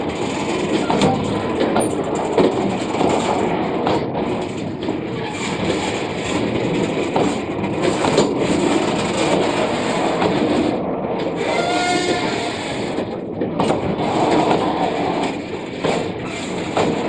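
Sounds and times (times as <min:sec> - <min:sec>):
train wheels rumbling on rail: 0:00.0 - 0:17.0
wheels clacking: 0:00.0 - 0:17.0.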